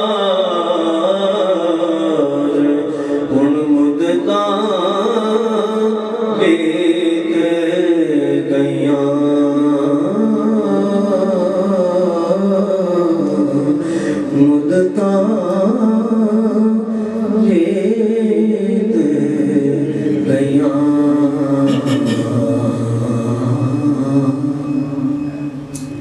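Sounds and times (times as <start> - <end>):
low drone: 0.0 - 26.0
man singing into a microphone: 0.0 - 26.0.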